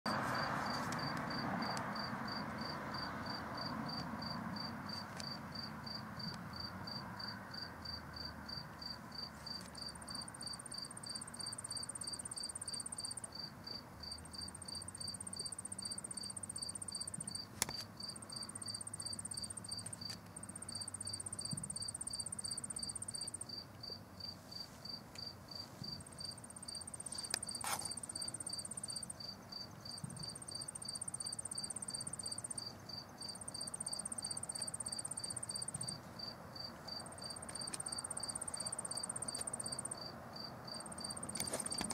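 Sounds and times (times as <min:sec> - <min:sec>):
crickets chirping: 0:00.1 - 0:41.9
high insect trill: 0:00.1 - 0:41.9.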